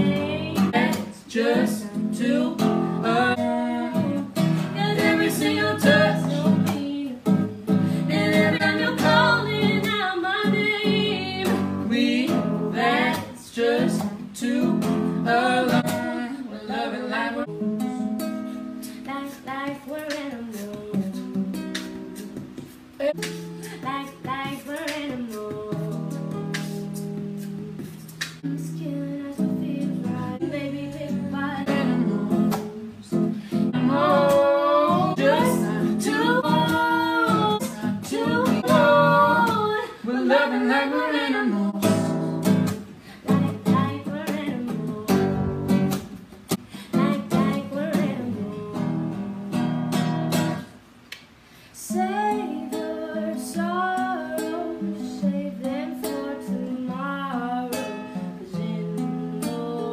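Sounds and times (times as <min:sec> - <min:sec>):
woman singing with vibrato: 0:00.0 - 0:21.8, 0:23.0 - 0:46.0, 0:46.7 - 0:50.7, 0:51.8 - 0:59.9
acoustic guitar strumming: 0:00.0 - 0:50.8.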